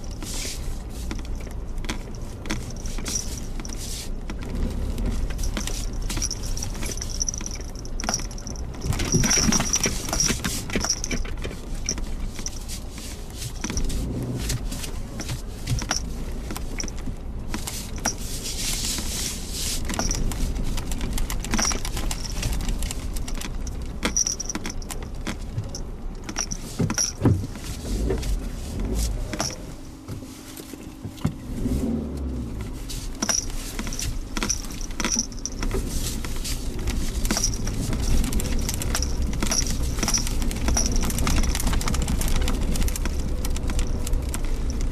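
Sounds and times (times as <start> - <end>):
rattling clicks: 0.0 - 19.2, 19.8 - 28.2, 32.2 - 44.9
car engine and road rumble: 0.0 - 44.9.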